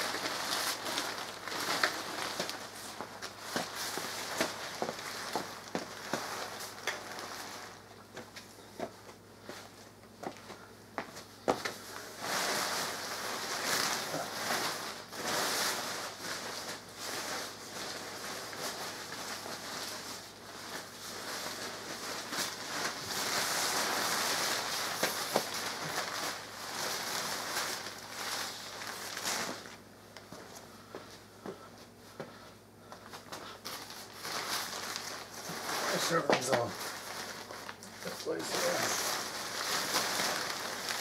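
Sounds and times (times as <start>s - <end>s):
nylon fabric rustling and crinkling: 0.0s - 31.3s, 33.0s - 41.0s.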